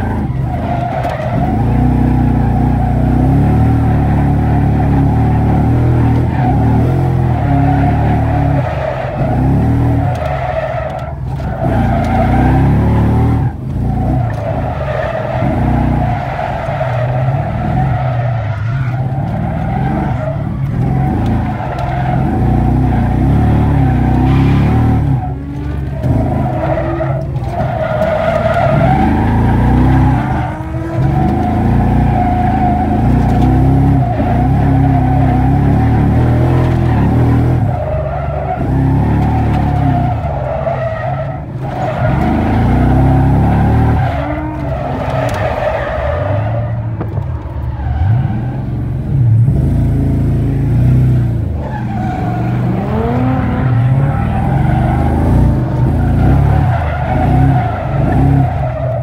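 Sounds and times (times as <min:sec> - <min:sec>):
tyres squealing: 0:00.0 - 0:48.8
car engine at high revs: 0:00.0 - 0:59.0.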